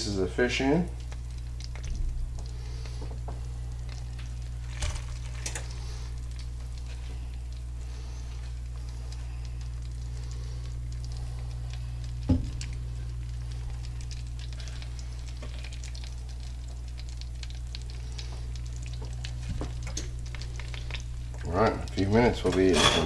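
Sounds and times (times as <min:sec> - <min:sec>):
fish sizzling in a frying pan: 0:00.0 - 0:23.0
low hum: 0:00.9 - 0:23.0.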